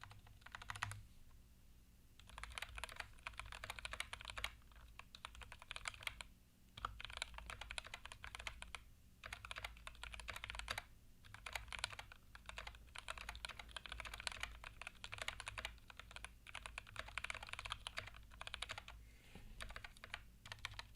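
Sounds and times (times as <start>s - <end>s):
mechanical keyboard typing: 0.0s - 1.0s, 2.2s - 19.0s, 19.6s - 20.9s.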